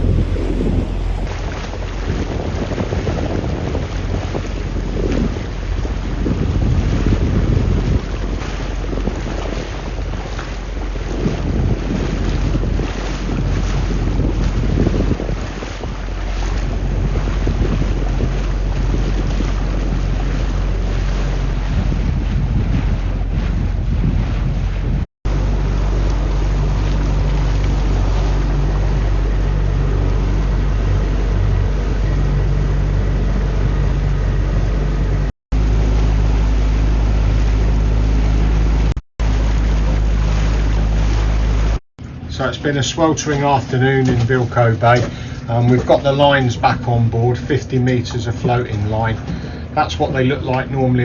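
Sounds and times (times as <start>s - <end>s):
rushing water: 0.0s - 33.6s, 35.5s - 51.0s
boat engine running: 0.0s - 51.0s
wind buffeting microphone: 0.0s - 51.0s.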